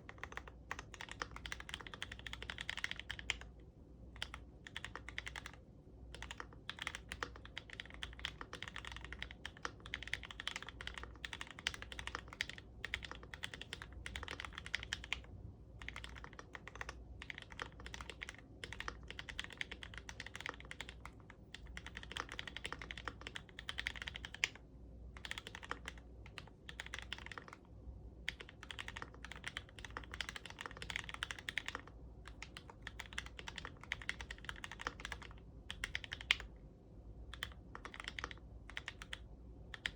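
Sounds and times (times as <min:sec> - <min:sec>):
fast mechanical keyboard typing: 0:00.0 - 0:03.5, 0:04.2 - 0:24.6, 0:25.2 - 0:27.7, 0:28.3 - 0:36.5, 0:37.3 - 0:39.9.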